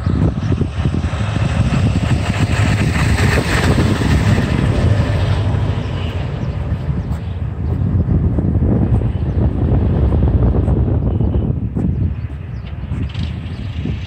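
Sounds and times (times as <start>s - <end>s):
snowmobile engine rumbling: 0.0s - 14.0s.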